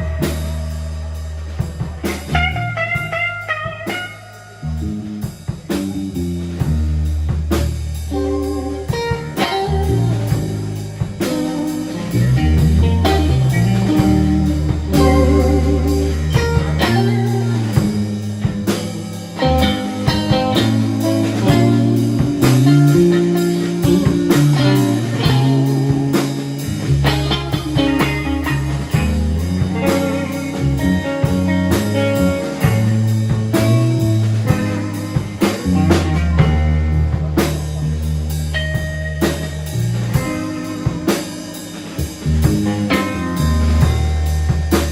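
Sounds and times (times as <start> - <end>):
bass guitar: 0.0 - 44.9
drum kit: 0.0 - 44.9
electric guitar: 0.0 - 44.9.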